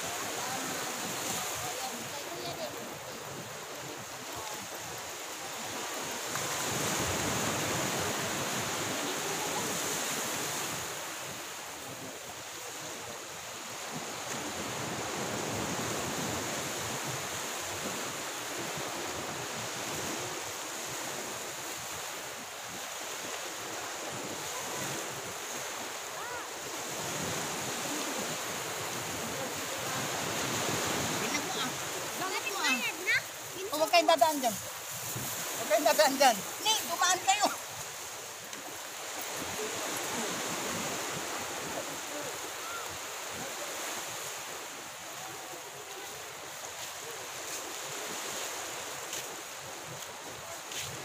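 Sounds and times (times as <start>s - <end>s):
sea surf washing onto shore: 0.0s - 51.0s.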